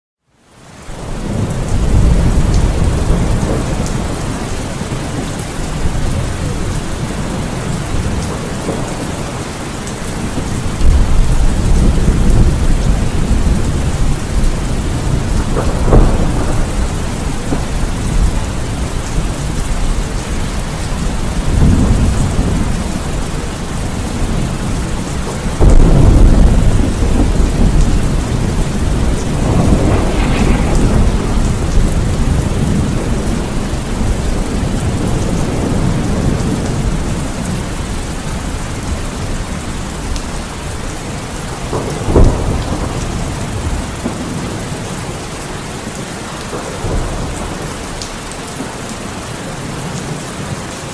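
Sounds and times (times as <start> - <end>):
steady rain: 0.2 - 50.9
rolling thunder: 1.0 - 50.5.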